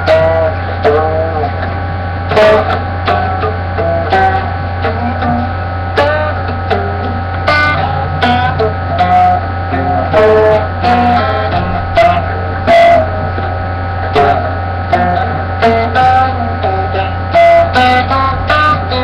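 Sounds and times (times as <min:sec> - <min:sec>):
plucked string instrument: 0:00.0 - 0:19.0
steady low hum: 0:00.0 - 0:19.0.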